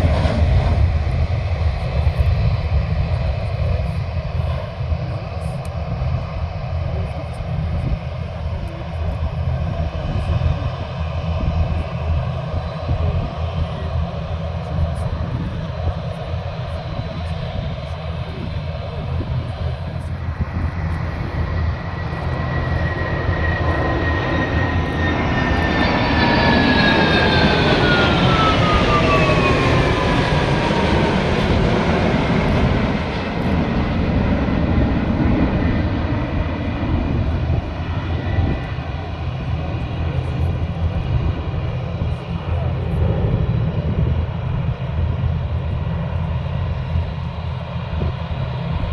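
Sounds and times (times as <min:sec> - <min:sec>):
jet aircraft passing by: 0:00.0 - 0:48.9.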